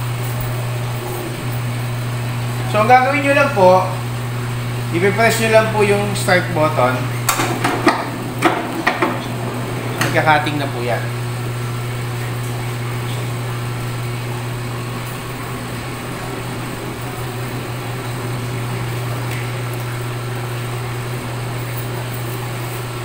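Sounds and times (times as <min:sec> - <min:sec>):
paper cutter motor humming: 0:00.0 - 0:23.0.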